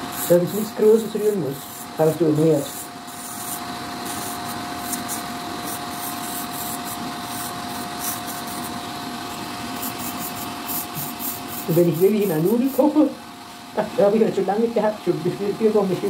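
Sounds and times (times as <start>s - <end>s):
electric drill grinding skin: 0.0s - 13.2s.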